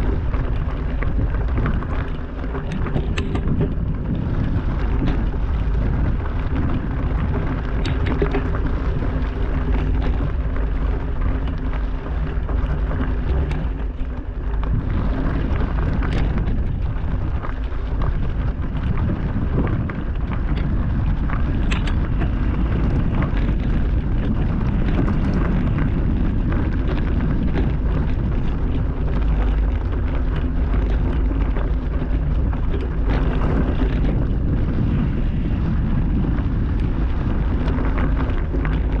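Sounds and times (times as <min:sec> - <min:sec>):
bike clicks and knocks over rocks: 0:00.0 - 0:39.0
wind buffeting microphone: 0:00.0 - 0:39.0.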